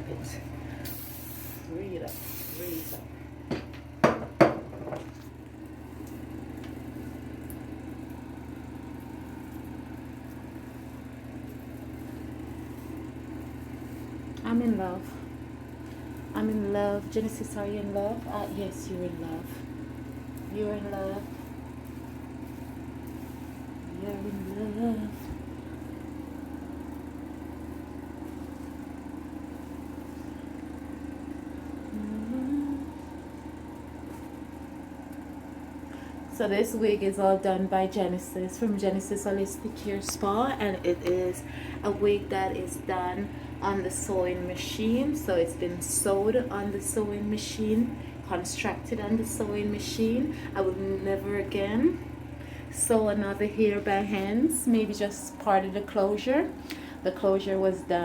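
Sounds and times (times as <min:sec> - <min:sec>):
low electric hum: 0:00.0 - 0:58.0.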